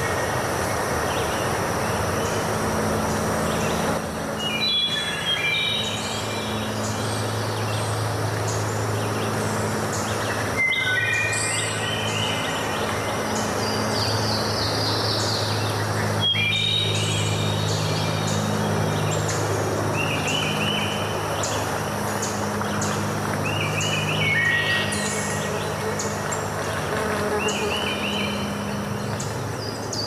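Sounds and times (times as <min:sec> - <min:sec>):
low steady hum: 0:00.0 - 0:30.0
water flowing: 0:00.3 - 0:30.0
birds chirping and trilling: 0:03.4 - 0:30.0.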